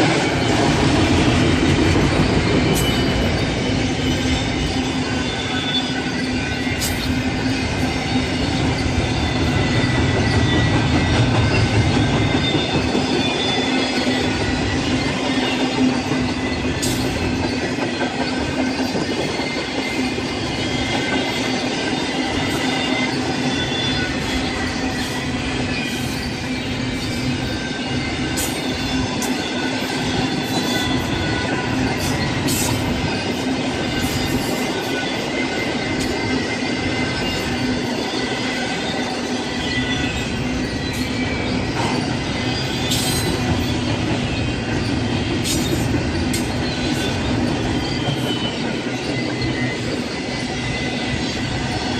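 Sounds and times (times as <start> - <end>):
train rumbling on rails: 0.0 - 51.9
thin wheel squeals: 2.7 - 51.9.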